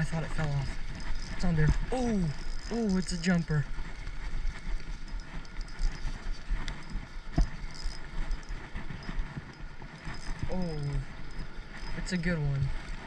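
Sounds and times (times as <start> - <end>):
spinning reel being cranked: 0.0 - 12.9
wind and handling on microphone: 0.0 - 13.0.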